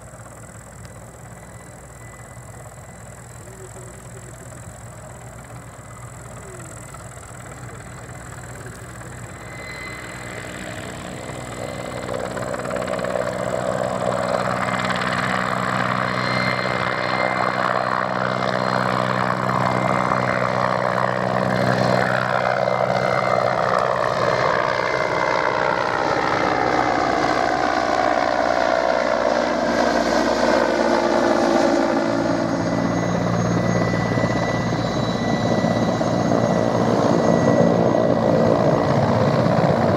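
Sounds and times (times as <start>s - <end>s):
helicopter flying past: 0.0s - 39.9s.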